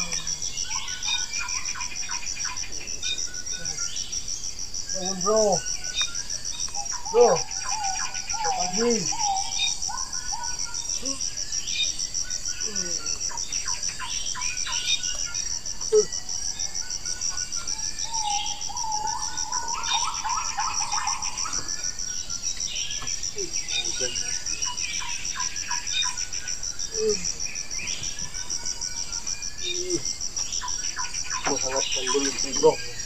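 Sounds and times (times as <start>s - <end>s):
birds chirping: 0.0s - 33.0s
insect trill: 0.0s - 33.0s.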